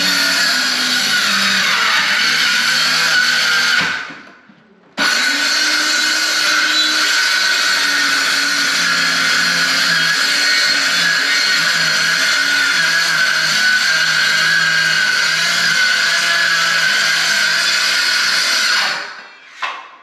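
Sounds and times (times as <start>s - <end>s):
electric jigsaw running: 0.0s - 4.1s, 5.0s - 19.2s.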